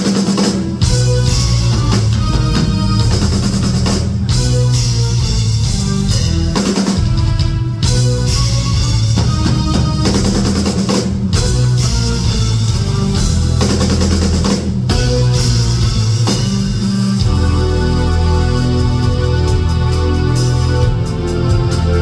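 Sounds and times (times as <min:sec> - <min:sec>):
drum kit playing: 0:00.0 - 0:22.0.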